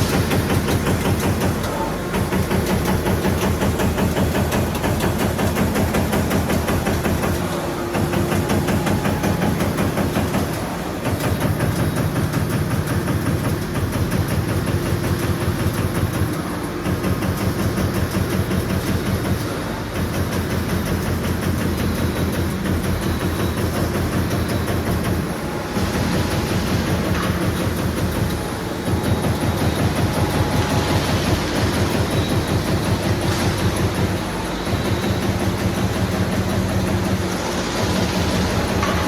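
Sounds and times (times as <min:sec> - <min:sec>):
low machine hum: 0:00.0 - 0:39.0.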